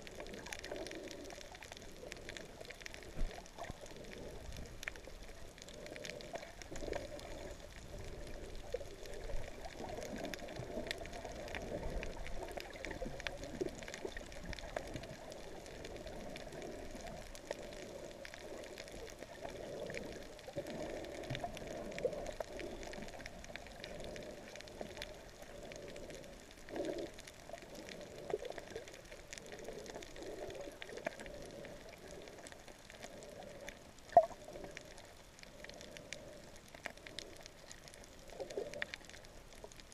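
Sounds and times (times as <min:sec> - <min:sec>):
crackling clicks: 0:00.0 - 0:39.9
underwater water noise: 0:00.0 - 0:39.9
whale song underwater: 0:00.0 - 0:39.9.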